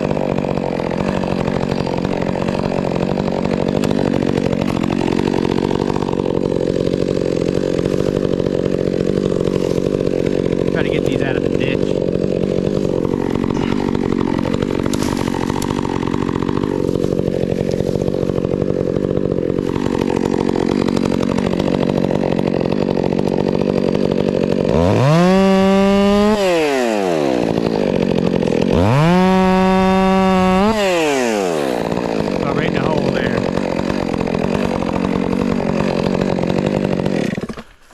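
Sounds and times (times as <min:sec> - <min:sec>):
chainsaw cutting wood: 0:00.0 - 0:37.9
chainsaw revving: 0:00.0 - 0:37.9.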